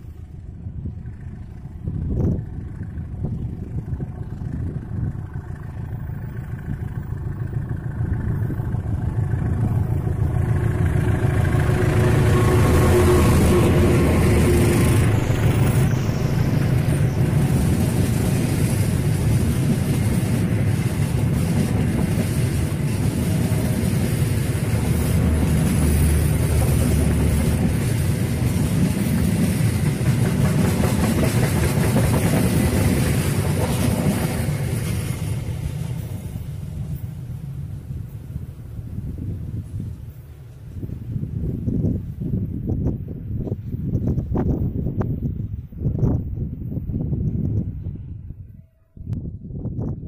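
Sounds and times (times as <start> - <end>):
train wheels rumbling on track: 0.0 - 48.4.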